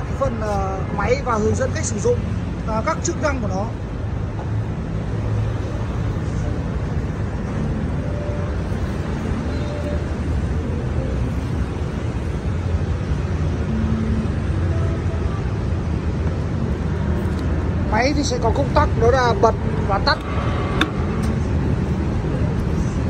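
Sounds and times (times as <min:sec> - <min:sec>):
low rumble of street traffic: 0:00.0 - 0:23.0.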